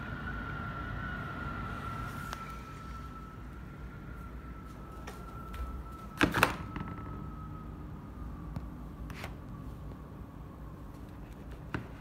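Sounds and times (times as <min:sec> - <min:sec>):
air conditioner hum: 0:00.0 - 0:12.0
faint high whine: 0:00.0 - 0:12.0.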